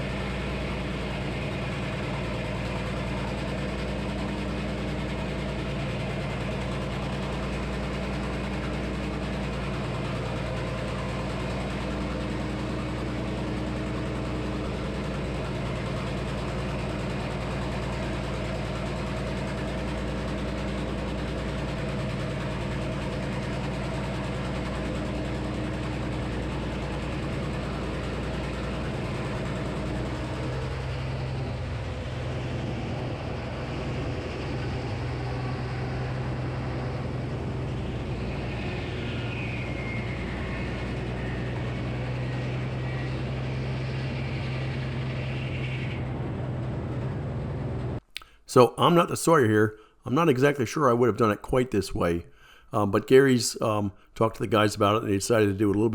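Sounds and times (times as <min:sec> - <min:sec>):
sawmill engine drone: 0:00.0 - 0:55.9.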